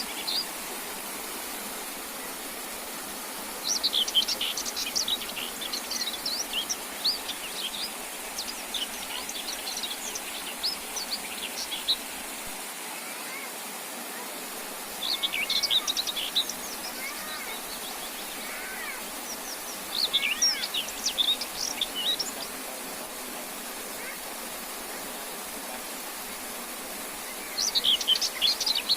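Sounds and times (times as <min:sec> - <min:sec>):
songbirds chirping and twittering: 0:00.0 - 0:12.8, 0:14.4 - 0:28.9
steady hiss: 0:00.0 - 0:28.9.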